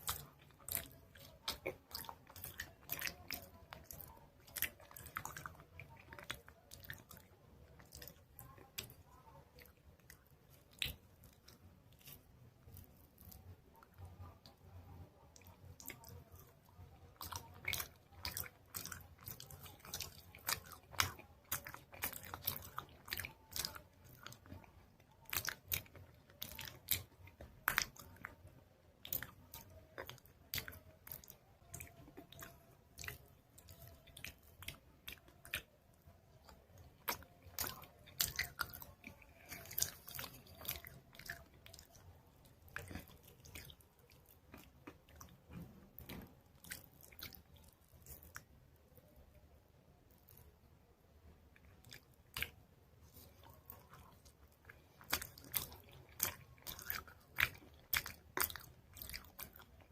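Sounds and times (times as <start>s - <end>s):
chalk crunching and chewing: 0.0s - 49.2s, 50.0s - 50.6s, 51.5s - 59.9s.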